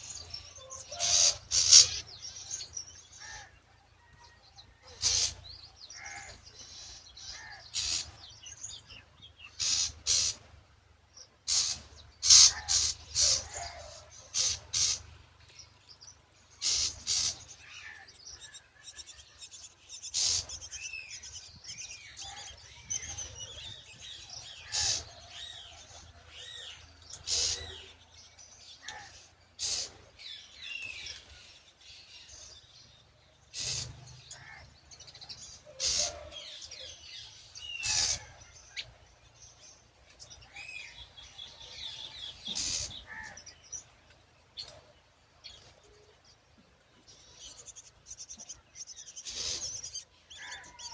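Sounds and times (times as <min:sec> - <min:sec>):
myna birds sharp calls: 0:00.0 - 0:50.9.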